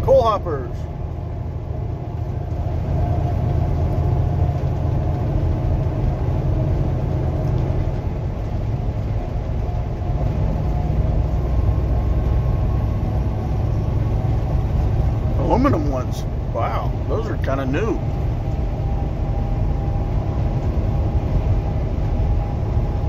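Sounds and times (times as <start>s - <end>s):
road rumble: 0.0s - 23.0s
truck engine drone: 0.0s - 23.0s.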